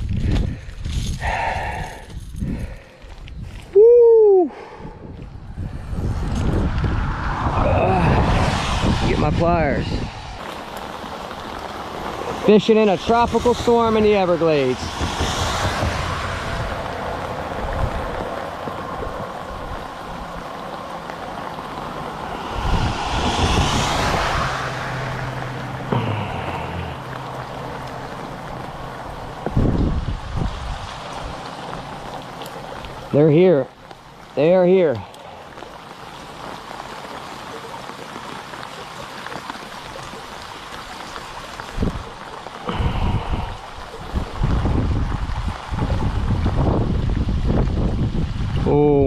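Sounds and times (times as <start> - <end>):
wind buffeting microphone: 0.0 - 33.1, 41.6 - 49.0
steady rain: 0.0 - 49.0.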